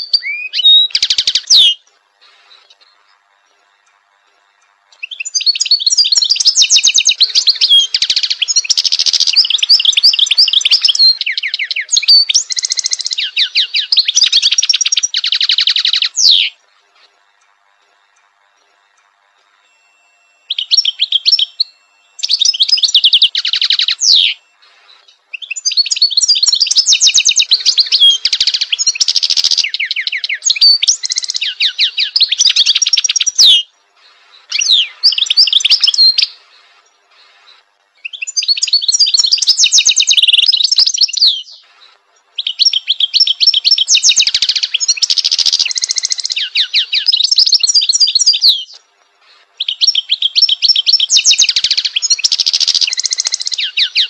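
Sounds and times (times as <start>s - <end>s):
finch twittering song: 0.0s - 3.2s, 4.9s - 16.6s, 19.7s - 48.8s, 49.6s - 54.0s.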